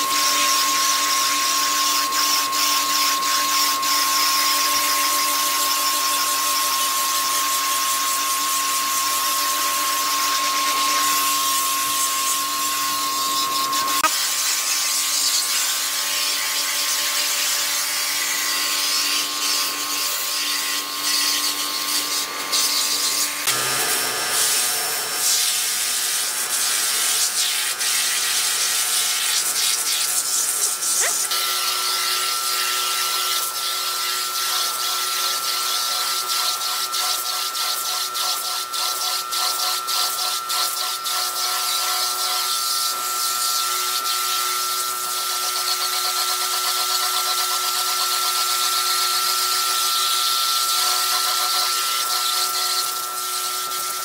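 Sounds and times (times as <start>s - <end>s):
pressure washer motor running: 0.0s - 54.0s.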